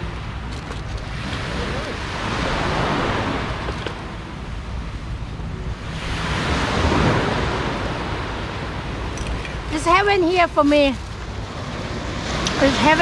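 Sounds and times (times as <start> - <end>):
sea surf washing on shore: 0.0 - 13.0
wind rumbling on microphone: 0.0 - 13.0.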